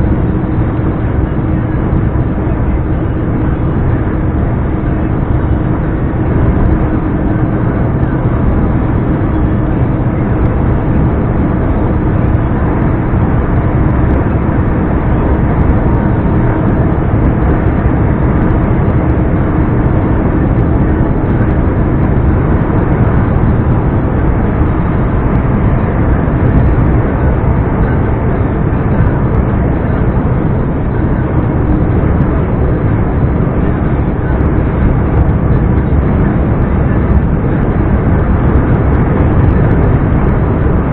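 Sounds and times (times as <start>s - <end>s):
road noise: 0.0s - 40.9s
truck diesel engine running: 0.0s - 40.9s.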